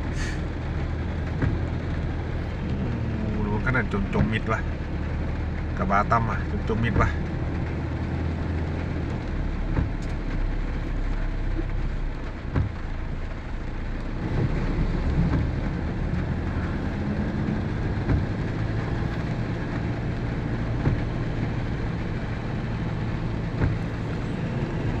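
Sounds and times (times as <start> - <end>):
heavy rain falling: 0.0 - 25.0
vehicle engine running: 0.0 - 25.0.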